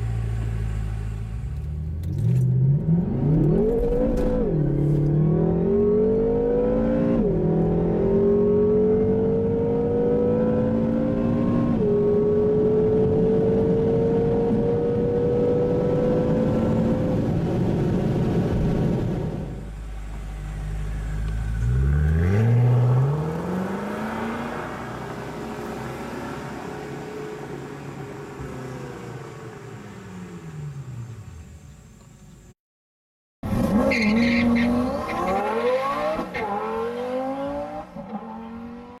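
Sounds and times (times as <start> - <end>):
car engine at full throttle: 0.0 - 32.5, 33.4 - 39.0.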